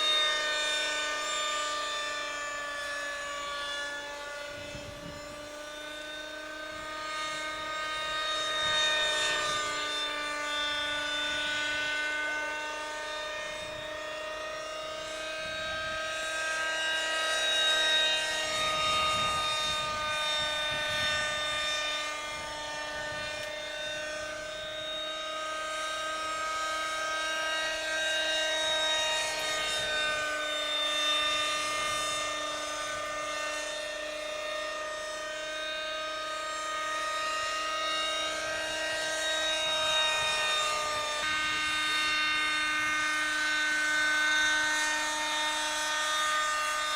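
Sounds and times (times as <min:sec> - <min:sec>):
model helicopter engine whine: 0:00.0 - 0:46.9.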